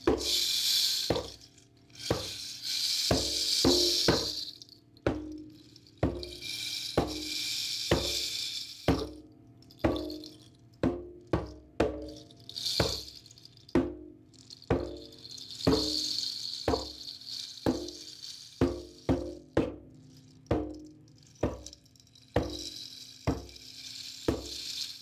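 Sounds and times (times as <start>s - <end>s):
hand drum beats: 0.0s - 2.4s, 3.1s - 9.2s, 9.8s - 19.9s, 20.5s - 21.7s, 22.4s - 23.6s, 24.3s - 24.7s
high shaking rattle: 0.0s - 10.8s, 11.4s - 25.0s.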